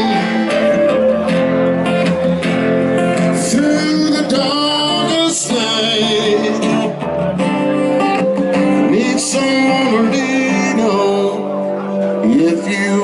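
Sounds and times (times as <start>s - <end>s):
man singing: 0.0s - 1.4s, 3.0s - 13.0s
organ chords: 0.0s - 13.0s.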